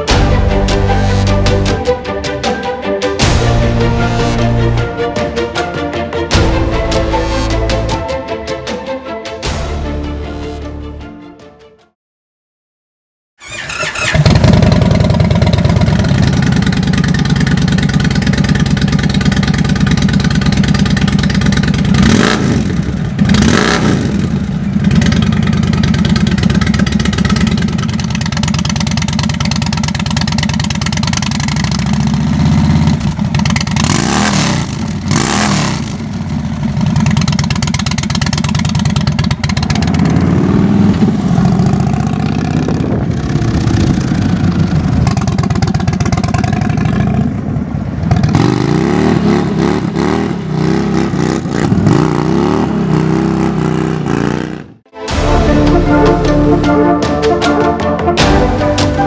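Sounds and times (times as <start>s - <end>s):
motorcycle engine idling and revving: 0.0s - 2.5s, 13.4s - 59.0s.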